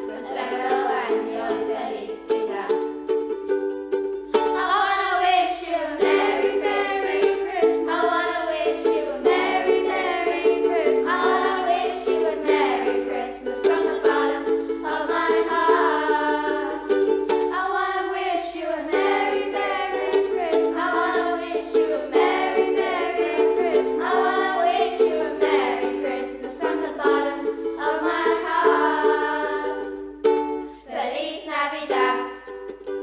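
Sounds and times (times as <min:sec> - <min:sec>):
children's choir singing: 0:00.0 - 0:02.8, 0:04.3 - 0:30.2, 0:30.8 - 0:32.6
ukulele playing chords: 0:00.0 - 0:33.0.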